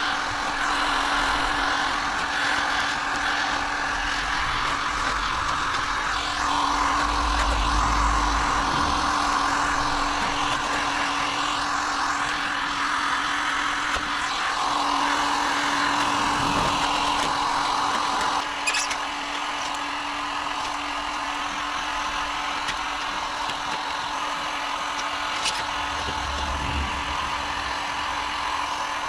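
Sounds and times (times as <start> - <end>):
power tool whirring: 0.0 - 29.0.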